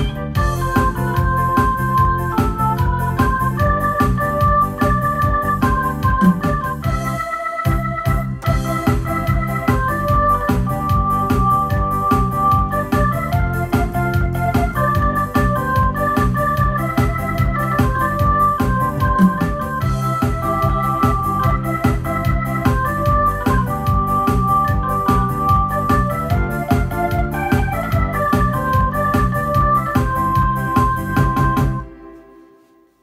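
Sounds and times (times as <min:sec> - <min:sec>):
drum beat: 0:00.0 - 0:31.8
bass line: 0:00.0 - 0:32.0
keyboard melody: 0:00.0 - 0:33.0.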